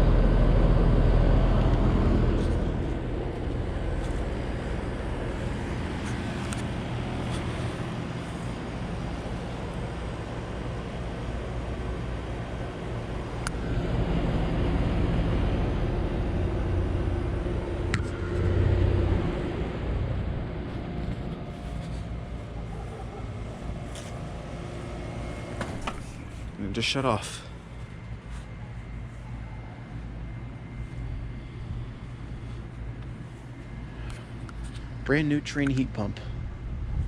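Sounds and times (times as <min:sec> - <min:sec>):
heat pump low hum: 0:00.0 - 0:37.0.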